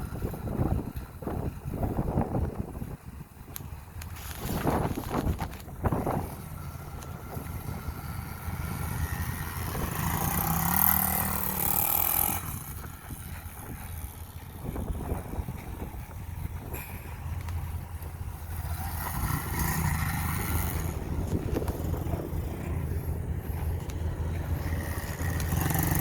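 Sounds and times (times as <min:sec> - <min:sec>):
motorbike engine revving: 0:04.2 - 0:26.0.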